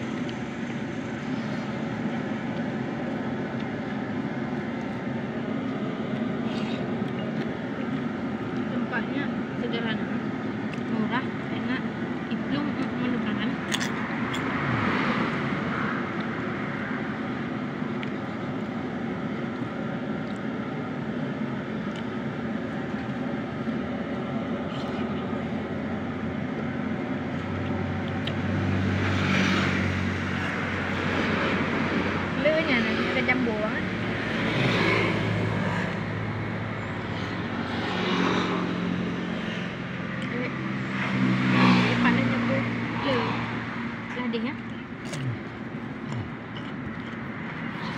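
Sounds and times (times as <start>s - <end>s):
steady rumbling background noise: 0.0s - 37.8s, 42.0s - 47.9s
vehicle engines passing: 0.0s - 47.9s.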